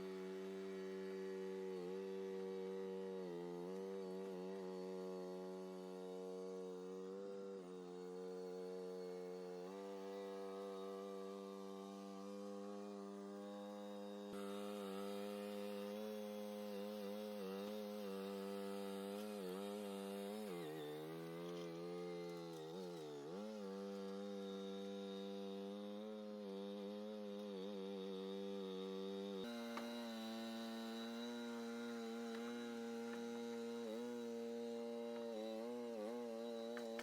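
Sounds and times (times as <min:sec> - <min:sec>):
small engine running at high speed: 0:00.0 - 0:37.0.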